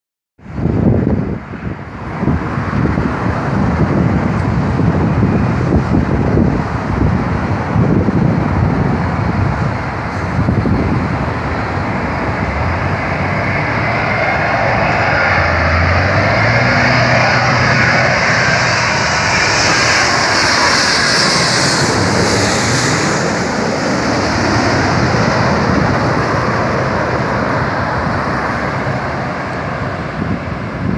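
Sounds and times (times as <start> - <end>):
wind buffeting microphone: 0.4 - 30.9
jet engines roaring: 0.5 - 30.9.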